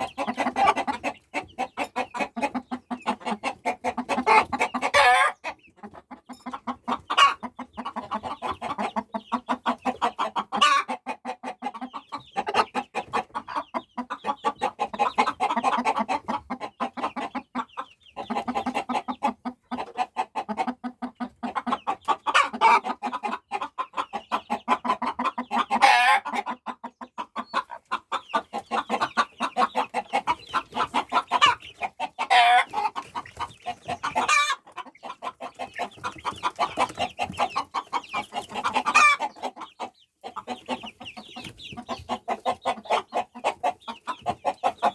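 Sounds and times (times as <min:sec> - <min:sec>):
chicks peeping: 0:00.0 - 0:44.9
hen clucking: 0:00.0 - 0:44.9.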